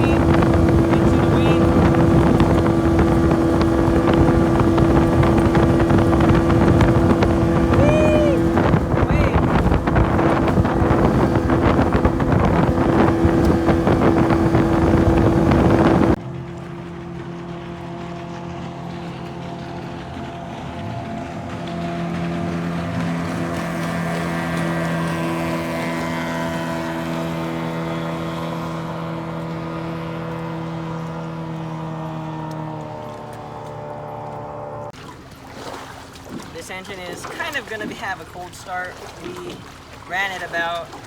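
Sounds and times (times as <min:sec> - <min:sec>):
wind buffeting microphone: 0:00.0 - 0:35.0
outboard engine drone: 0:00.0 - 0:41.0
water rushing: 0:00.0 - 0:41.0.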